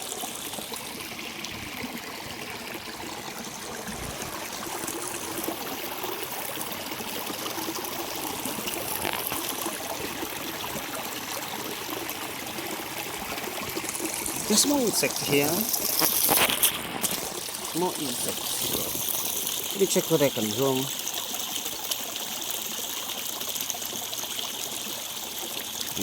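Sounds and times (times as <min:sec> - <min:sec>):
stream trickling over rocks: 0:00.0 - 0:26.0.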